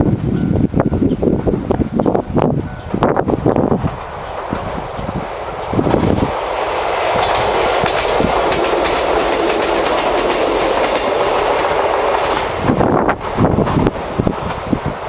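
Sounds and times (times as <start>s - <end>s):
train wheels on rails: 0.0s - 15.0s
wheels clicking over rail joints: 2.8s - 15.0s.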